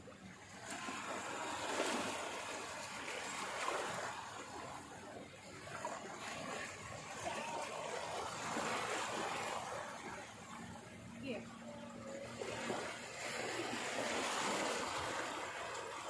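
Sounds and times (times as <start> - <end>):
water washing in surges: 0.0 - 16.0.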